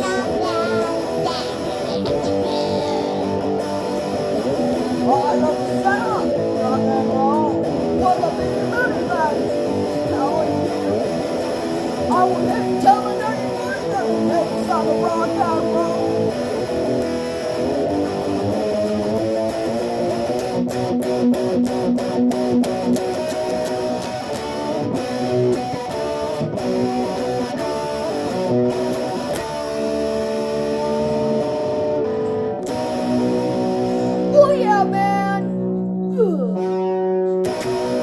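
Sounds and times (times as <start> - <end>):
rock and roll electric guitar music: 0.0 - 38.0.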